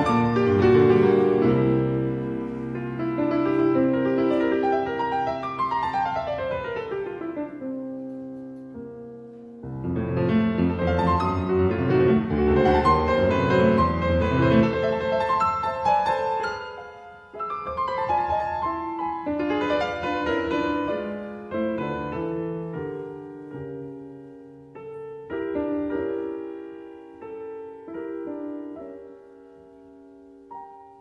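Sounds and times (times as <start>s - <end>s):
classical piano music: 0.0s - 31.0s.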